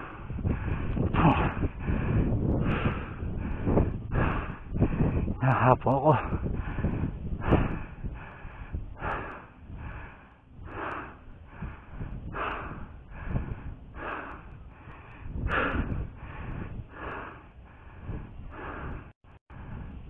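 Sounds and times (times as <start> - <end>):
person breathing hard: 0.0 - 20.0.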